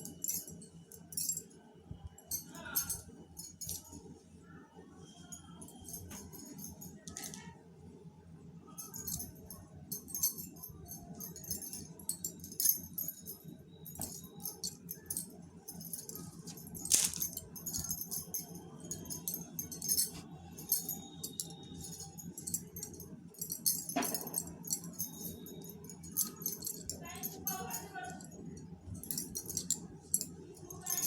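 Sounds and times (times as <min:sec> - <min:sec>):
light jingling and clinking: 0:00.0 - 0:04.1, 0:05.1 - 0:07.6, 0:08.7 - 0:31.0
steady low hum: 0:00.0 - 0:31.0.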